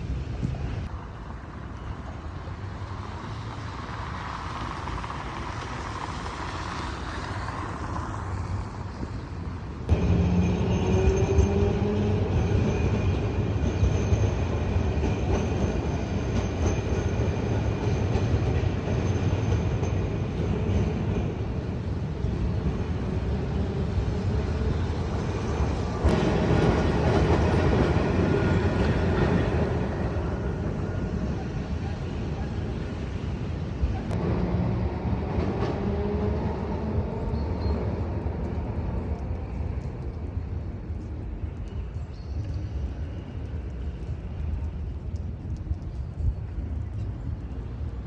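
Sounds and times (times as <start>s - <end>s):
rail vehicle running: 0.0s - 48.0s.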